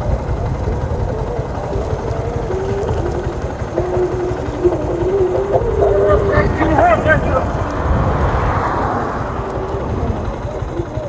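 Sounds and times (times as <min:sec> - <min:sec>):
motorcycle engine hum: 0:00.0 - 0:11.0
wind buffeting microphone: 0:00.0 - 0:11.0.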